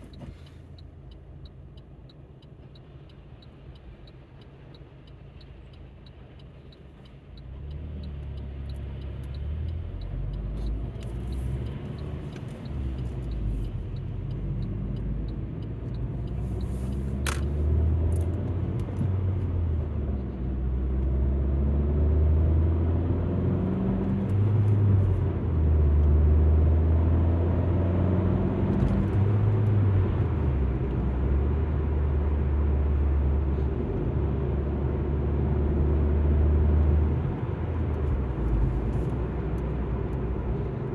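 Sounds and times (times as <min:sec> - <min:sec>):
road rumble: 0:00.0 - 0:40.9
car engine accelerating: 0:07.4 - 0:40.9.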